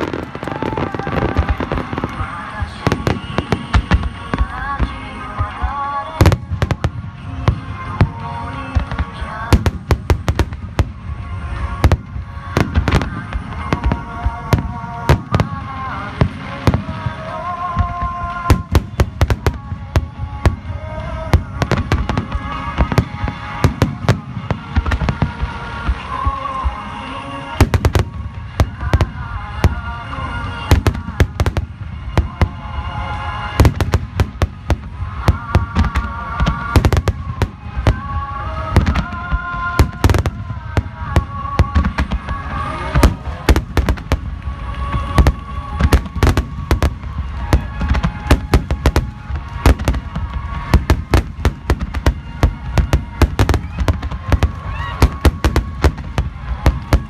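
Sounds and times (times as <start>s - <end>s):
fireworks bangs and booms: 0.0s - 57.0s
music with melody: 0.0s - 57.0s.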